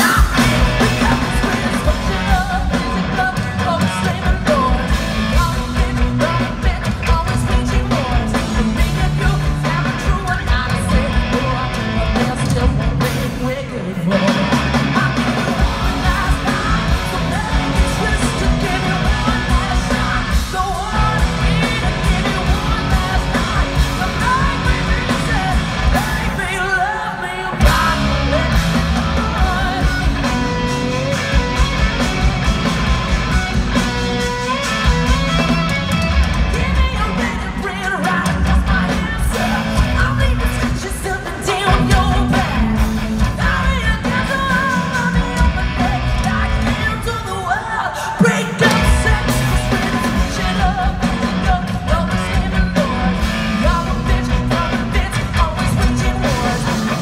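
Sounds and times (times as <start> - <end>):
hard rock band playing live: 0.0 - 57.0.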